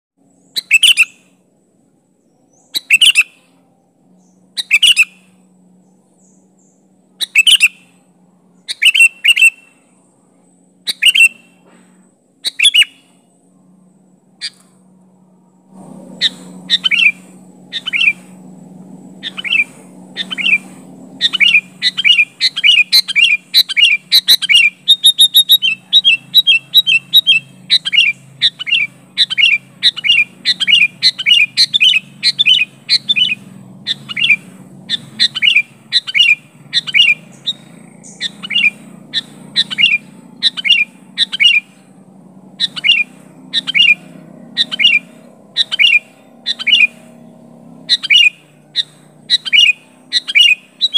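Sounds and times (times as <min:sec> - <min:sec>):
bird chirping calls: 0:00.2 - 0:50.9.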